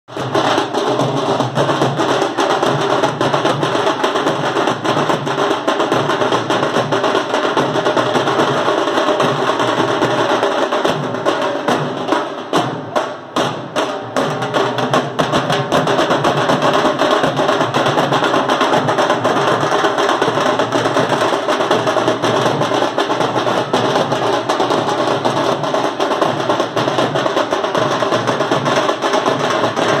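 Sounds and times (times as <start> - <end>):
fast drumming with sticks: 0.1 - 30.0.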